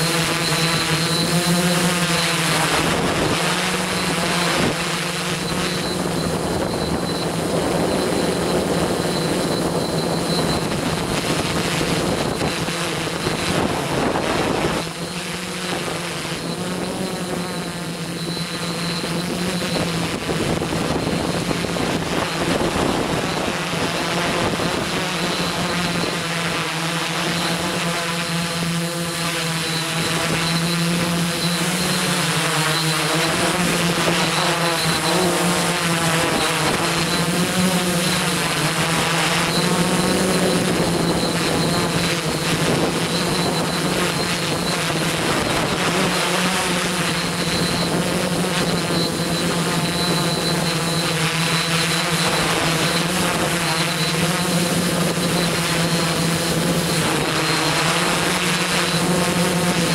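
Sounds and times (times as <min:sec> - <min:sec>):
quadcopter propellers buzzing: 0:00.0 - 0:59.9.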